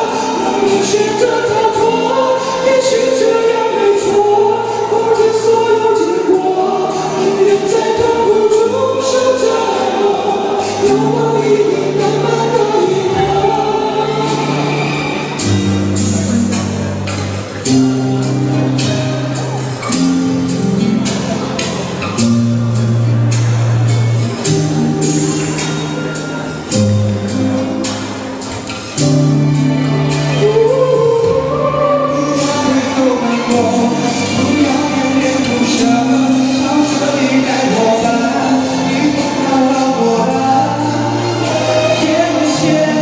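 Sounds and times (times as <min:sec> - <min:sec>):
man singing a pop ballad: 0:00.0 - 0:23.7, 0:28.7 - 0:43.0
backing music with held chords: 0:00.0 - 0:43.0.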